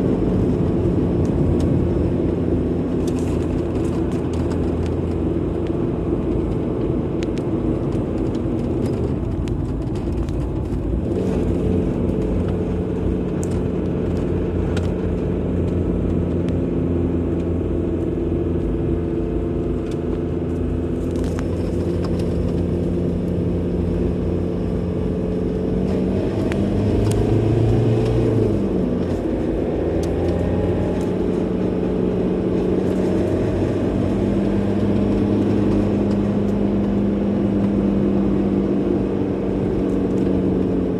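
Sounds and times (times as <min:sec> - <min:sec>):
car engine hum: 0:00.0 - 0:40.9
road and tyre noise: 0:00.0 - 0:40.9.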